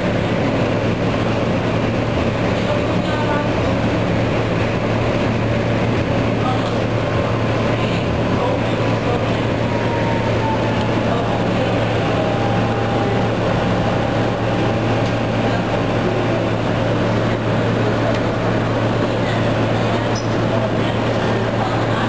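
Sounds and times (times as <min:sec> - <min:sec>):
low motor hum: 0:00.0 - 0:22.0
train wheels rumbling on rail: 0:00.0 - 0:22.0.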